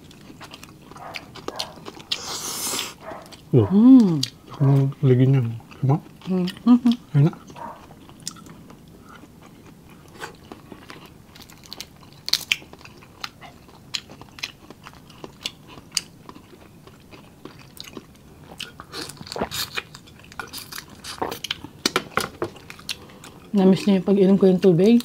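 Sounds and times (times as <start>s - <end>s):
chewing and crunching: 0.0s - 25.0s.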